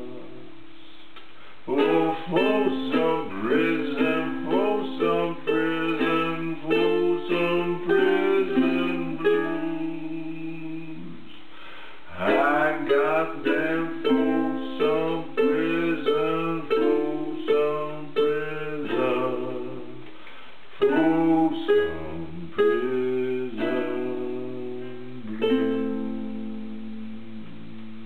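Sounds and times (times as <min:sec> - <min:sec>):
acoustic string instrument strumming: 0:01.7 - 0:11.0, 0:11.6 - 0:28.0.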